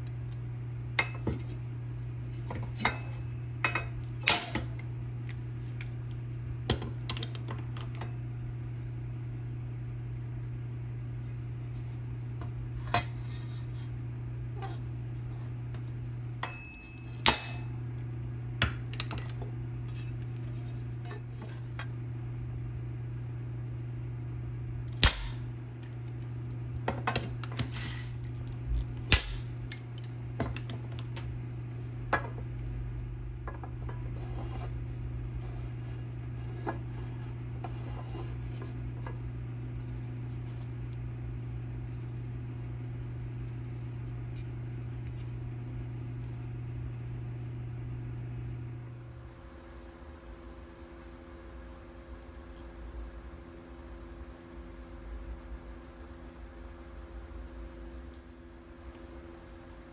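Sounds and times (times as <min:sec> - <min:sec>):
low electric hum: 0:00.0 - 0:59.9.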